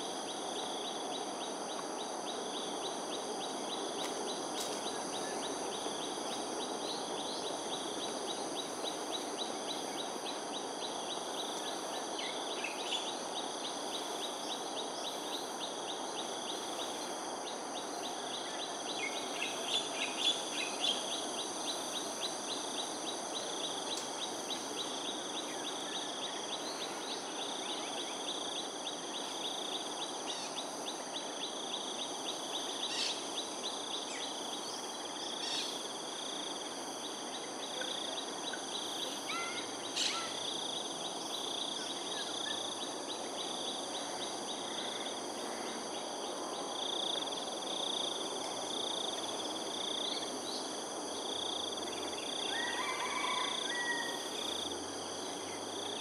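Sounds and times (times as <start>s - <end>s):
insects buzzing and trilling: 0.0s - 56.0s.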